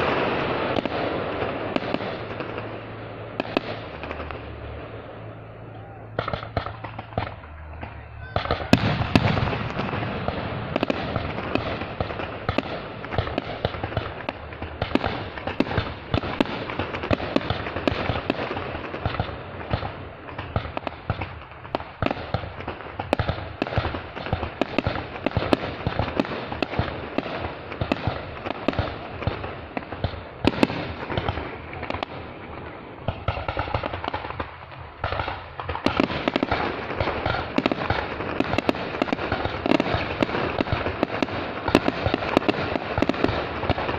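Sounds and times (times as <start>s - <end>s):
fireworks popping and banging: 0.0s - 43.9s.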